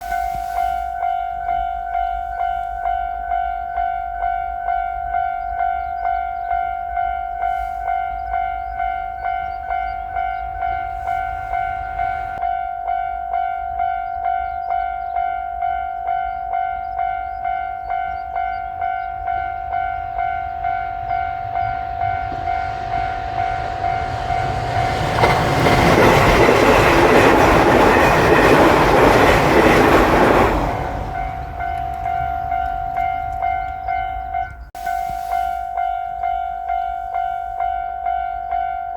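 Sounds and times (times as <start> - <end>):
electric train passing: 0.0 - 38.9.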